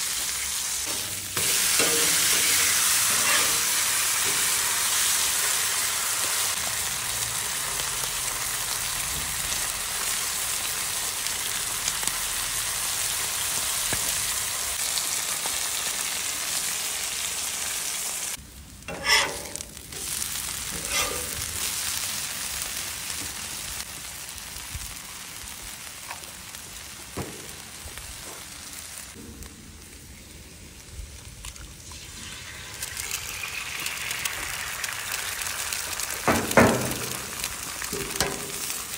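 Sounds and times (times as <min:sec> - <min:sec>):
steaks sizzling on a griddle: 0:00.0 - 0:29.2, 0:32.0 - 0:38.9
hash browns sizzling: 0:00.0 - 0:38.9.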